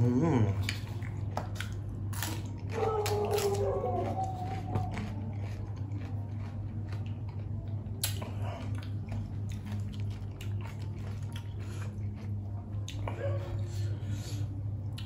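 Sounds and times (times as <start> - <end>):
steady low hum: 0.0 - 15.0
crunchy chewing: 0.5 - 13.7.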